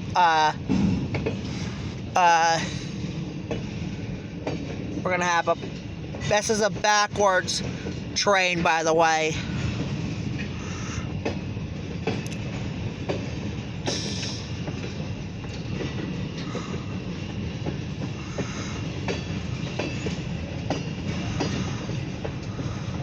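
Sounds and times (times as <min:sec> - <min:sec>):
train wheels rumbling on rails: 0:00.0 - 0:23.0
wheels clicking over rail joints: 0:03.2 - 0:23.0.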